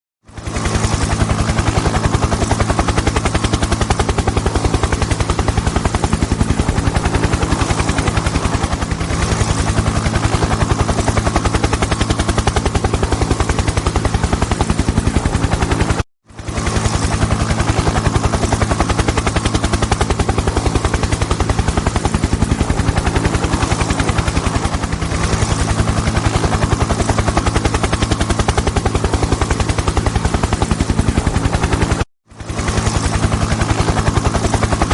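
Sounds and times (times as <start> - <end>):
helicopter rotor chopping: 0.2 - 34.9.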